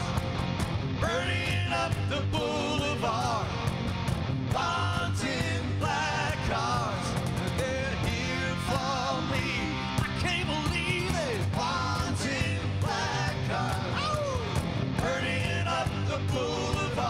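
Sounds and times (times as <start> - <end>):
bass guitar: 0.0 - 17.0
man singing: 1.0 - 3.6, 4.5 - 17.0.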